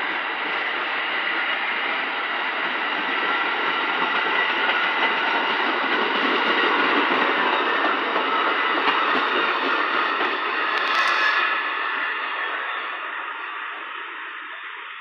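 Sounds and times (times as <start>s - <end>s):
train cars rumbling on rails: 0.0s - 15.0s.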